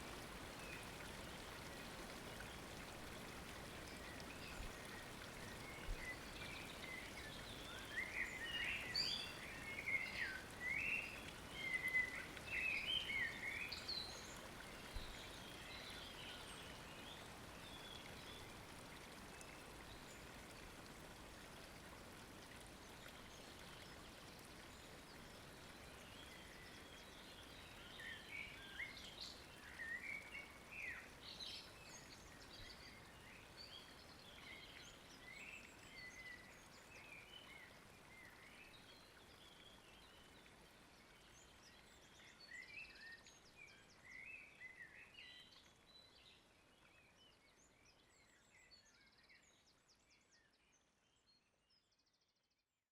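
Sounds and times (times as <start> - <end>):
flowing water: 0.0 - 47.2.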